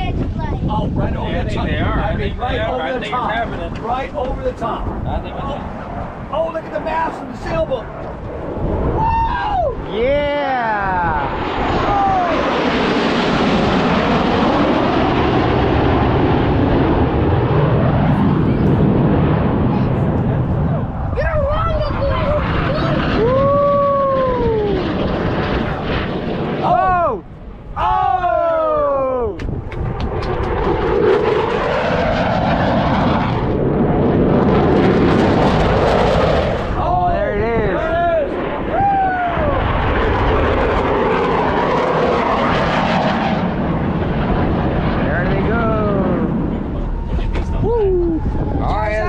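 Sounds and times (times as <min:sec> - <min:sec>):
jet engines roaring overhead: 0:00.0 - 0:49.0.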